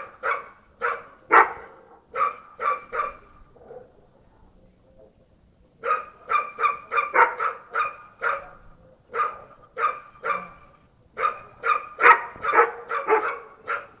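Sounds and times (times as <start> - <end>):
dog barking: 0.0 - 3.9, 5.8 - 14.0.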